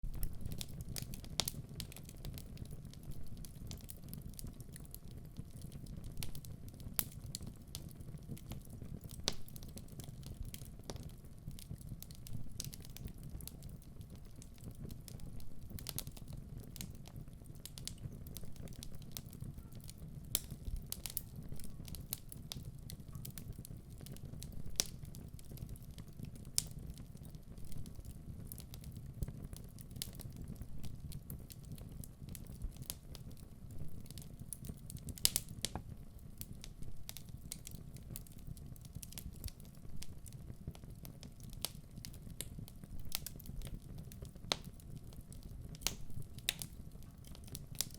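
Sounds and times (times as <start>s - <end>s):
fire flames rumbling: 0.0s - 47.9s
logs crackling and popping: 0.0s - 47.9s.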